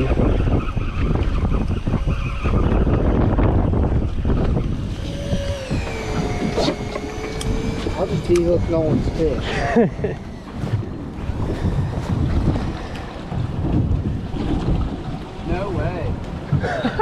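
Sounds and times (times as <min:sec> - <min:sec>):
steady whine: 0:00.0 - 0:16.6
sea and boat: 0:00.0 - 0:17.0
wind buffeting microphone: 0:00.0 - 0:17.0.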